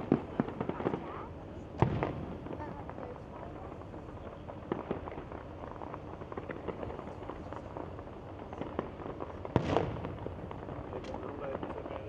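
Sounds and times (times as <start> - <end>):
distant fireworks popping: 0.0 - 12.0.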